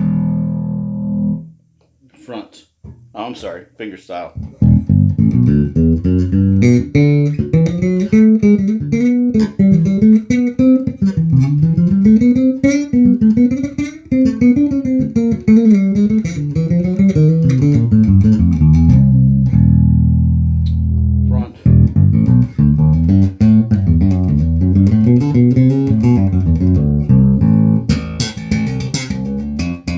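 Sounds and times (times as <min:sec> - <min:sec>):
electric bass plucked notes: 0:00.0 - 0:01.6, 0:04.4 - 0:29.9.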